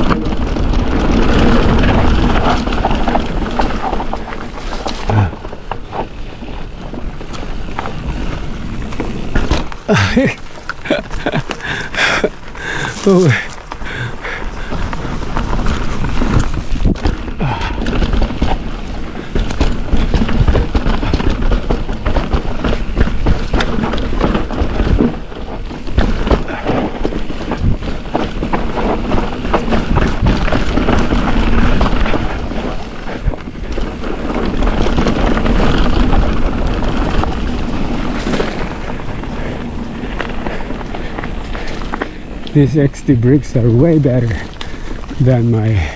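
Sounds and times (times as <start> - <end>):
bike rattling and knocking: 0.0 - 45.9
tyres on dirt: 0.0 - 45.9.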